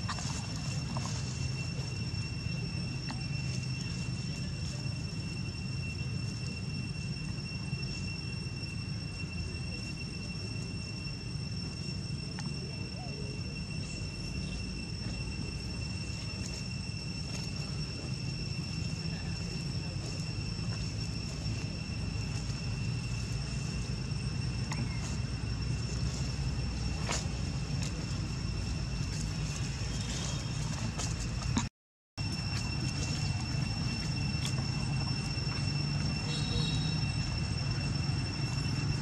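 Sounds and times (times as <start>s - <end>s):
high-pitched insect drone: 0.0s - 31.6s, 32.2s - 39.0s.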